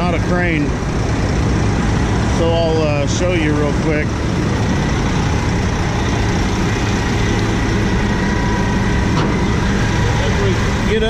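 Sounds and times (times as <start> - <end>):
diesel truck engine idling: 0.0 - 11.0
thin steady whine: 0.0 - 11.0.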